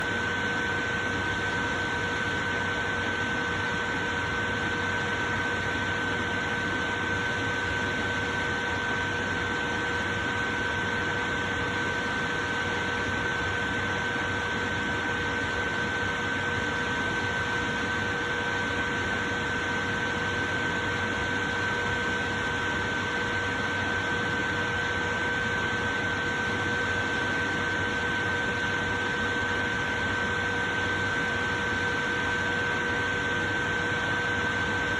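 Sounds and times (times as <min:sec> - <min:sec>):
electric fan running: 0:00.0 - 0:34.9.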